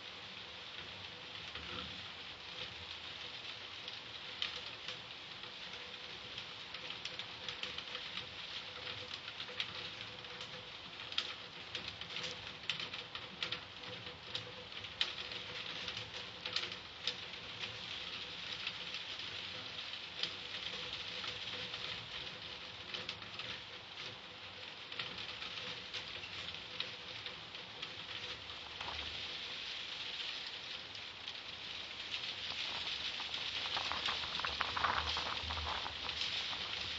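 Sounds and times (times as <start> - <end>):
faint steady hum: 0.0 - 36.9
rain pattering on surfaces: 0.0 - 36.9.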